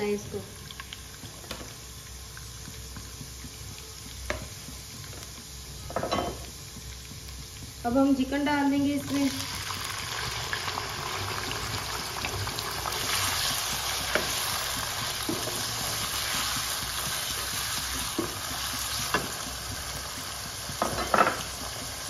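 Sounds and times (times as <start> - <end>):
chicken sizzling in hot fat: 0.0 - 22.0.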